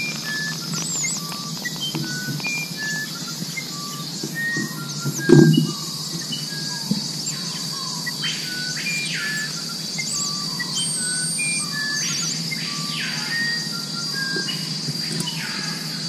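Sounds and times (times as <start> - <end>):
high-pitched insect drone: 0.0 - 16.0
whistled bird calls and chirps: 0.0 - 16.0.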